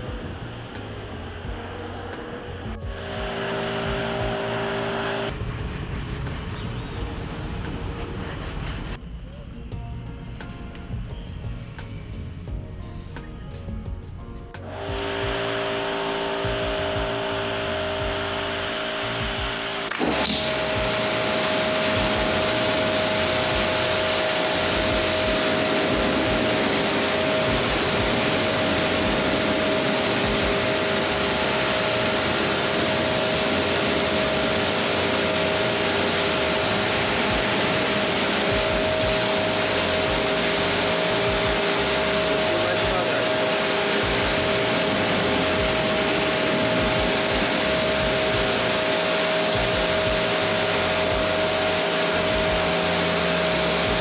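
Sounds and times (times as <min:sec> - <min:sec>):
machine rushing noise: 0:00.0 - 0:09.3, 0:13.6 - 0:54.0
machine two-note whine: 0:00.0 - 0:14.0, 0:14.6 - 0:54.0.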